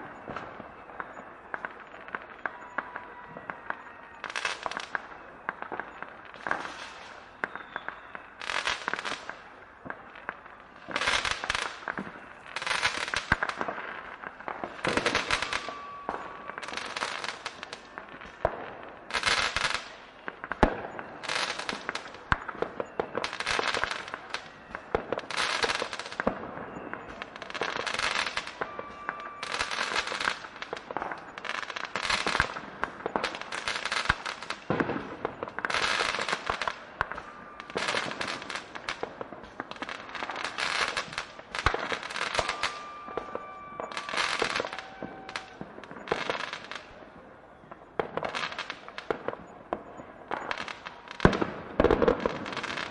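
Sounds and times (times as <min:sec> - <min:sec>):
fireworks cracking: 0:00.0 - 0:52.9.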